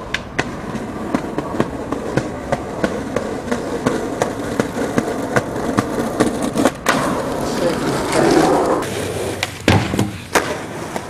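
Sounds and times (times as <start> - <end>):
skateboard clicks: 0.0 - 11.0
skateboard wheels rumbling: 0.0 - 11.0.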